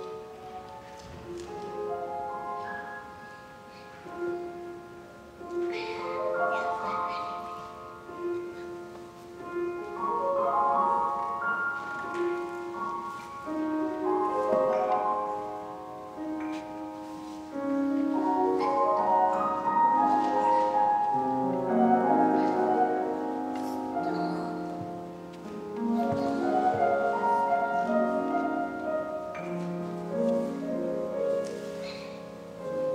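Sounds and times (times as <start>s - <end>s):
slow flowing piano piece: 0.0s - 32.9s.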